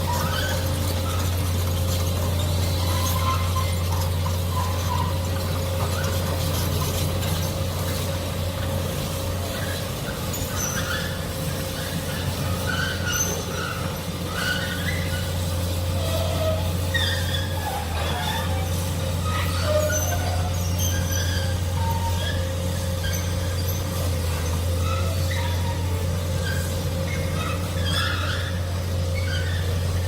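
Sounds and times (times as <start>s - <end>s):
short squeaks: 0.0s - 8.0s, 9.5s - 30.0s
excavator engine drone: 0.0s - 30.0s.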